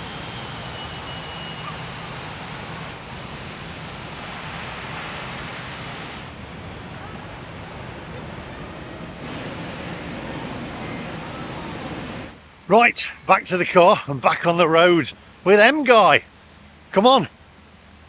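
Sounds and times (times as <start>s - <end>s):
rushing wind hiss: 0.0s - 15.5s, 16.2s - 18.0s.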